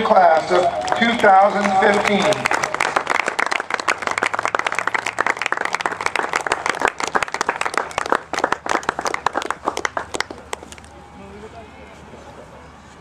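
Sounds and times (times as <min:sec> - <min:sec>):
crowd applause: 0:00.0 - 0:10.6.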